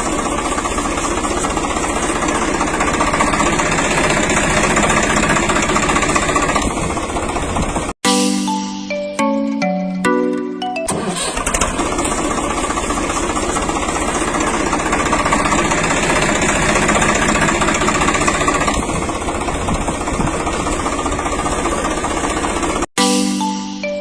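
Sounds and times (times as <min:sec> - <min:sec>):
motor running with fast knocking: 0:00.0 - 0:07.9, 0:11.3 - 0:22.9.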